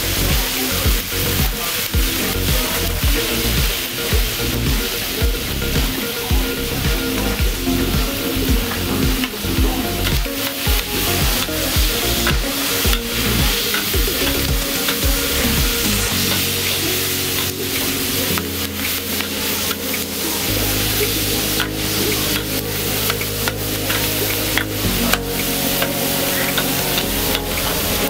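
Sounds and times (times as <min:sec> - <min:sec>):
background music: 0:00.0 - 0:28.0
food sizzling in a pan: 0:00.0 - 0:28.0.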